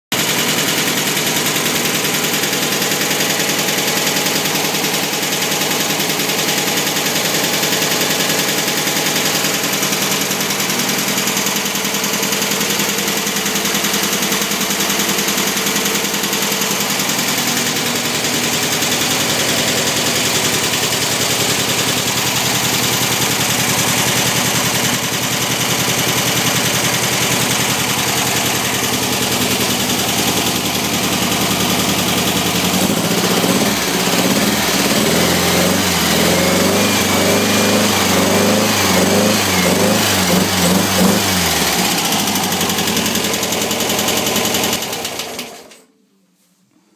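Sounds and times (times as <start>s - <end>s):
air-cooled engine running: 0.1s - 45.8s.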